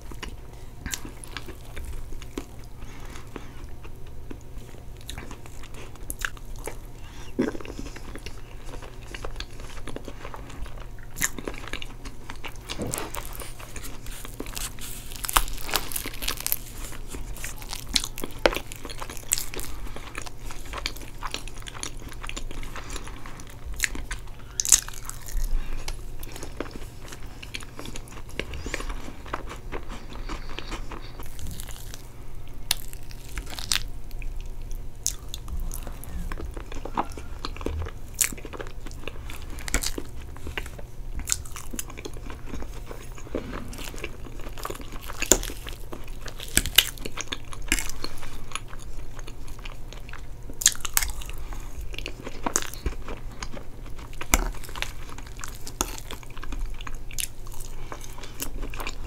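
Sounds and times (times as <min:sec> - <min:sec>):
chewing and mouth clicks: 0:00.0 - 0:59.0.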